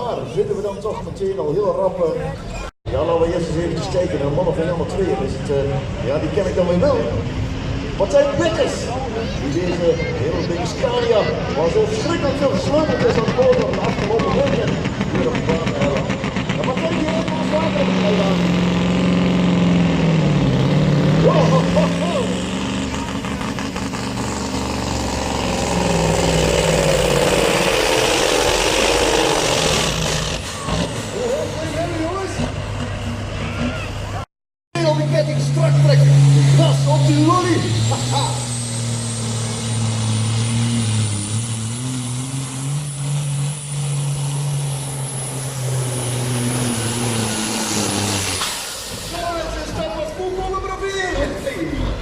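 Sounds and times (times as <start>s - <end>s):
truck diesel engine under load: 0.0s - 52.0s.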